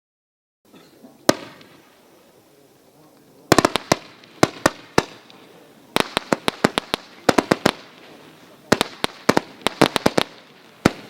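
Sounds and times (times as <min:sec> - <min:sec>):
firework cracks: 0:01.2 - 0:11.0.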